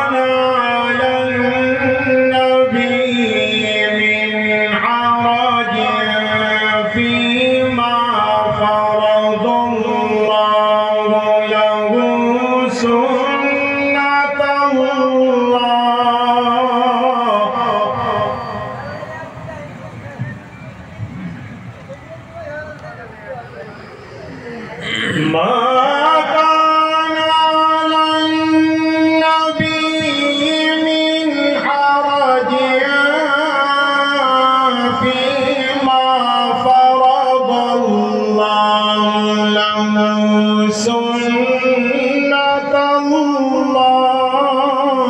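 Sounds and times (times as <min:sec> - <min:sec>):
man chanting recitation over loudspeakers: 0:00.0 - 0:20.4, 0:24.6 - 0:45.0.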